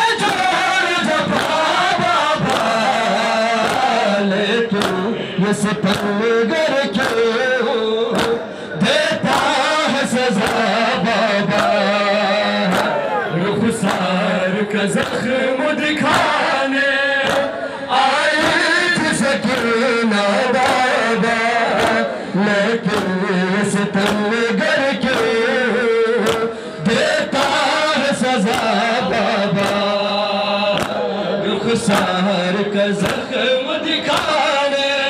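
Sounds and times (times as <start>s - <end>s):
mourners chanting: 0.0s - 35.0s
rhythmic chest slaps: 0.0s - 35.0s.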